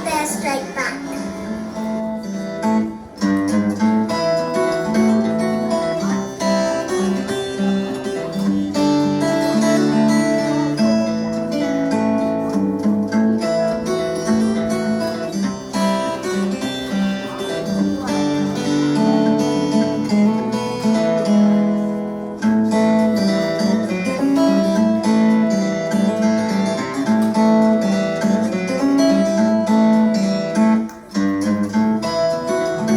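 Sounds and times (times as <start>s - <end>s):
strummed acoustic guitar music: 0.0s - 32.9s.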